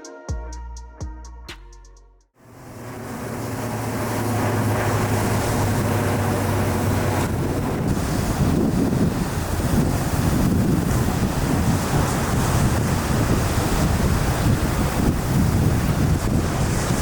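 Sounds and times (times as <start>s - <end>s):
low steady rumble: 2.4s - 17.0s
sea surf: 2.4s - 17.0s
wind buffeting microphone: 2.5s - 17.0s.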